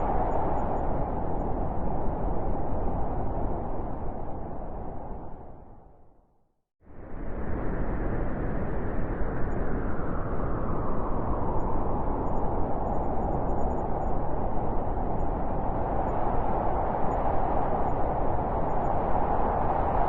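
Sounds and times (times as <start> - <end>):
howling blizzard wind: 0.0 - 6.2, 6.8 - 20.0.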